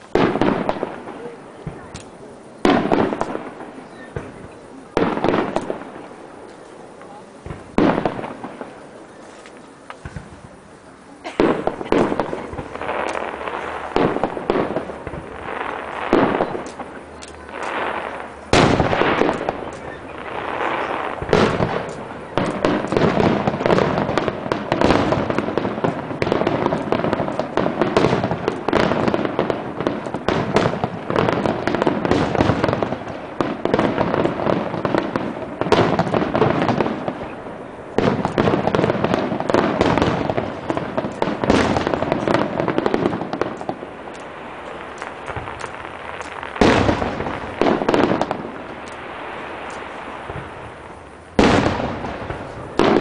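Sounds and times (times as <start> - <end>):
fireworks bangs: 0.0 - 53.0
fireworks crackling and popping: 0.0 - 53.0.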